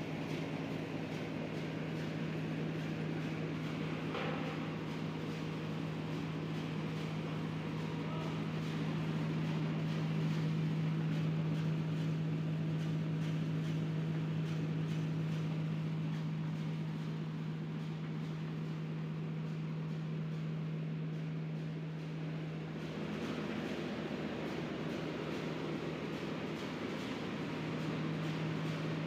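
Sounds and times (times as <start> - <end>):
milling machinery humming and whirring: 0.0 - 29.0.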